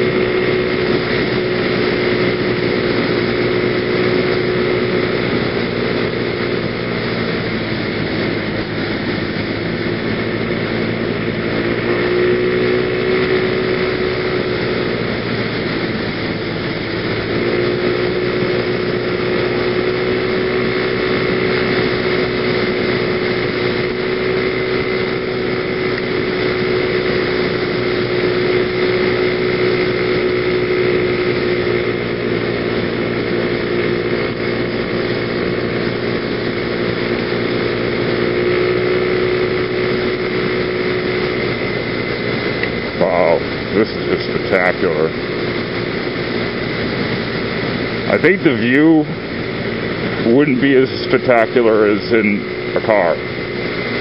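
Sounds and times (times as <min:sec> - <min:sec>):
scooter engine running: 0:00.0 - 0:54.0
wind rushing over microphone: 0:00.0 - 0:54.0.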